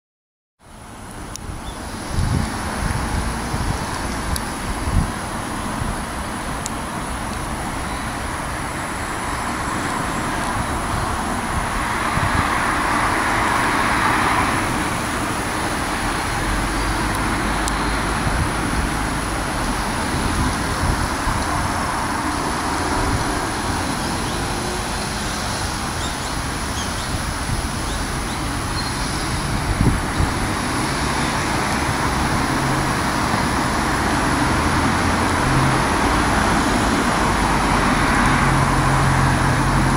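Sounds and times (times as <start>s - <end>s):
road traffic noise: 0.6s - 39.9s.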